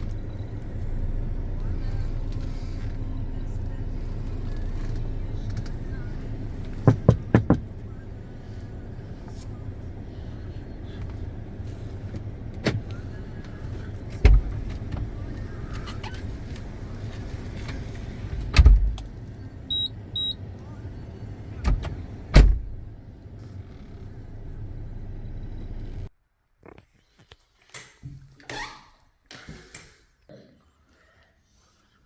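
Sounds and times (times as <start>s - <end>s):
vehicle engine rumbling: 0.0s - 26.1s.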